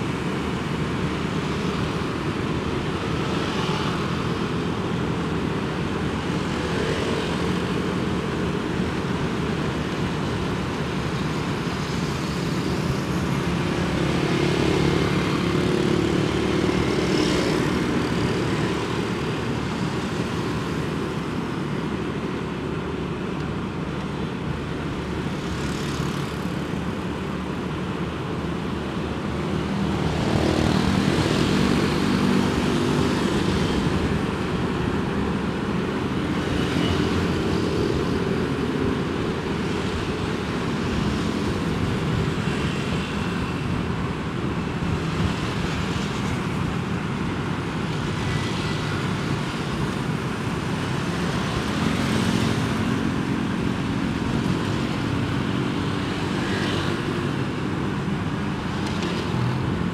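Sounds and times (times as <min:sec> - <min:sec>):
nearby motorbike engines: 0:00.0 - 0:59.9.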